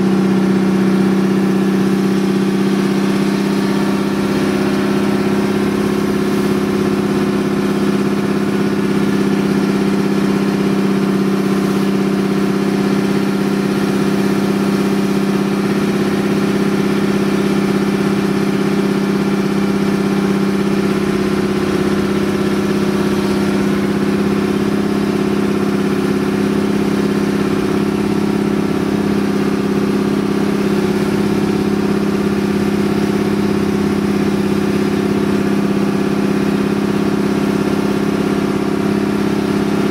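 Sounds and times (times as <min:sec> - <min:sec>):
boat engine running steadily: 0:00.0 - 0:39.9.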